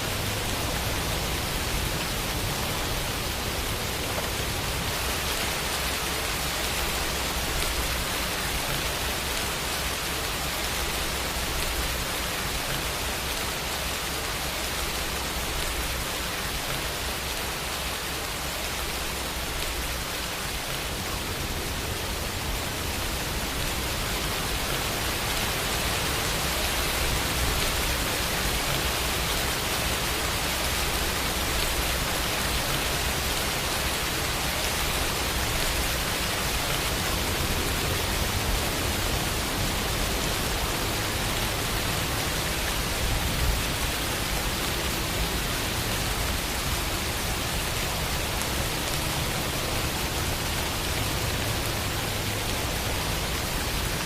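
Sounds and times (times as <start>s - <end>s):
louder raindrop patter: 0.0s - 54.0s
steady rain falling: 0.0s - 54.0s.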